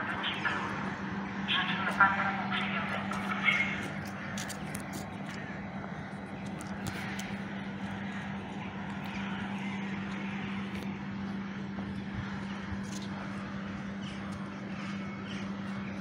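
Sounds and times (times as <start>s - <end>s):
vehicle hum with hiss: 0.0s - 16.0s.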